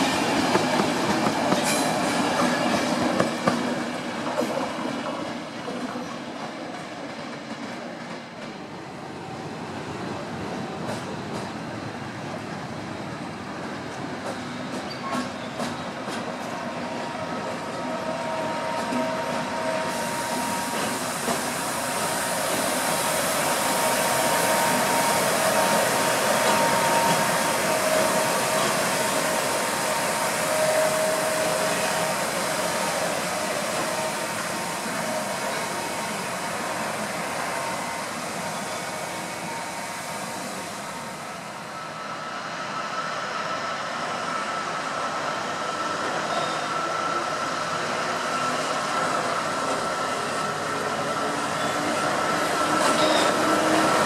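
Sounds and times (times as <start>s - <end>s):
train rolling noise: 0.0s - 54.0s.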